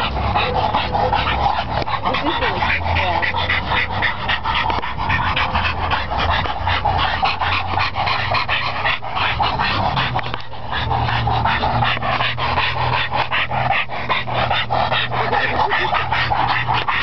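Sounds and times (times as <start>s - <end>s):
dog growling low: 0.0s - 17.0s
dogs panting: 0.0s - 17.0s.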